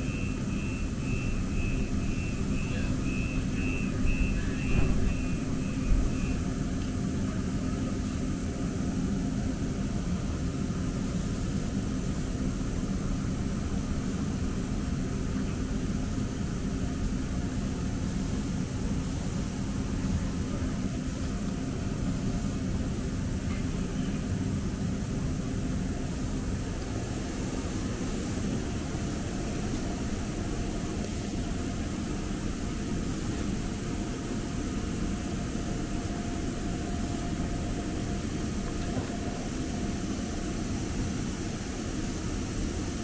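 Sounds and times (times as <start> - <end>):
faint steady whine: 0.0 - 43.0
light rail car rumble: 0.0 - 43.0.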